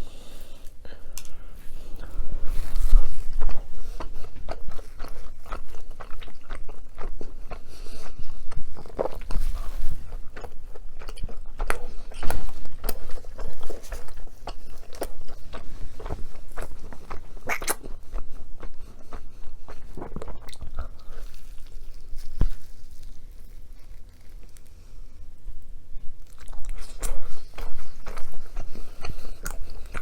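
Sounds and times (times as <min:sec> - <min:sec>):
person biting and chewing food: 0:01.2 - 0:24.8, 0:26.2 - 0:30.0.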